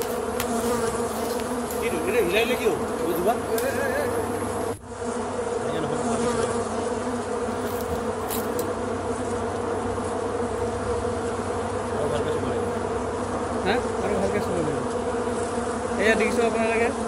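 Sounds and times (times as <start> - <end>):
wasps buzzing: 0.0 - 17.0.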